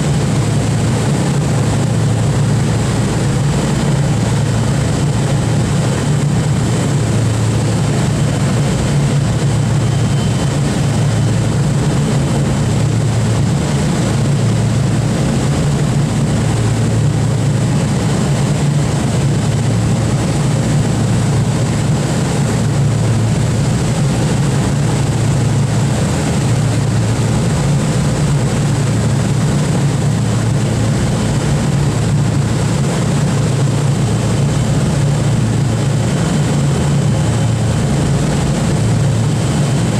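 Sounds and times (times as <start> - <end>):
propeller engines droning: 0.0 - 39.9.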